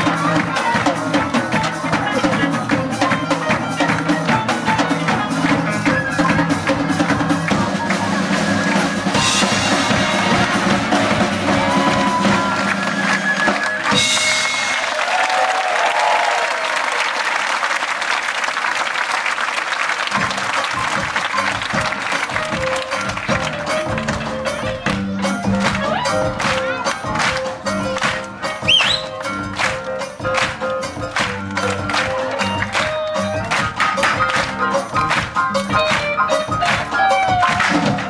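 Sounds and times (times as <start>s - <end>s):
band playing rhythmic music: 0.0s - 15.8s, 19.0s - 38.0s
drum kit beating: 0.0s - 15.8s, 20.1s - 38.0s
audience applause: 0.0s - 38.0s.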